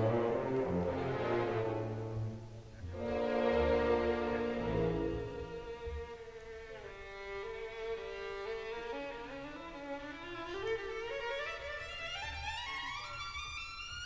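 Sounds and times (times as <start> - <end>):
violin playing slow melody: 0.0 - 14.0.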